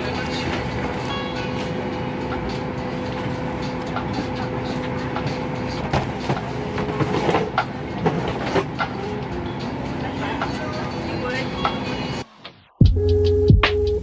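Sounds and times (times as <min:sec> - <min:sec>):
vehicle engine hum from inside: 0:00.0 - 0:12.2.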